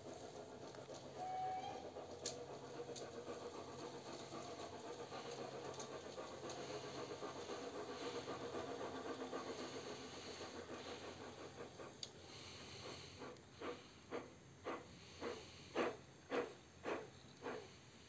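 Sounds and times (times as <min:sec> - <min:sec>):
steam chuffs from loudspeaker: 0:00.0 - 0:18.0.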